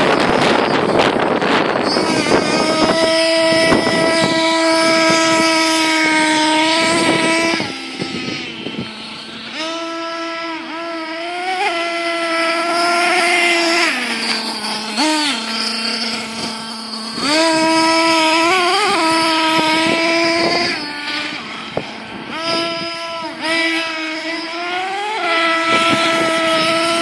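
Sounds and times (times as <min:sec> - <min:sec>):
rc nitro engine revving: 0:00.0 - 0:27.0.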